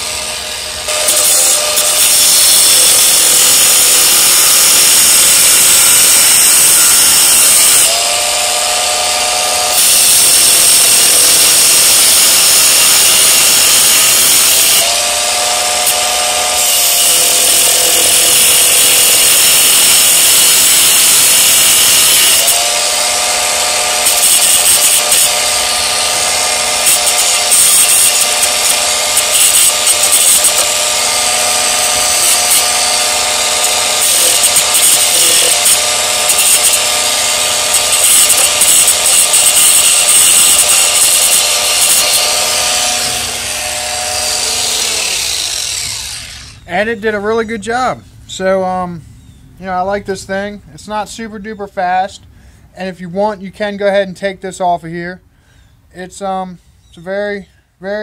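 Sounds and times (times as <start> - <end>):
grinder motor whine: 0.0 - 47.2
angle grinder grinding: 0.0 - 47.4.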